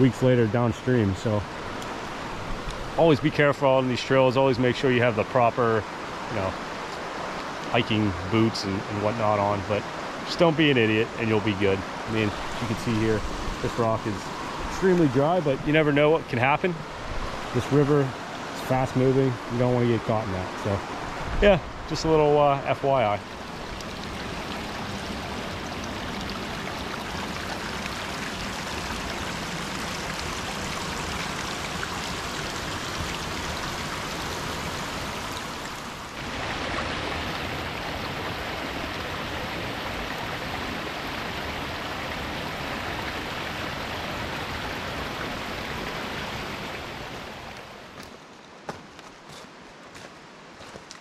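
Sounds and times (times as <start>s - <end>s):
river water rushing over rocks: 1.0s - 51.0s.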